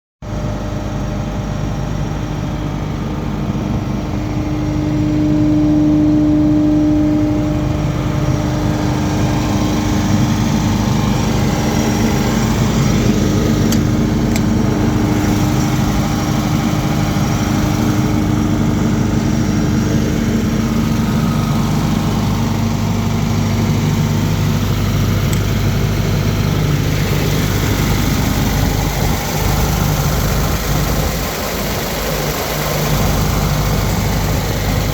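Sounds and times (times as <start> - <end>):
diesel engine idling: 0.2 - 34.9.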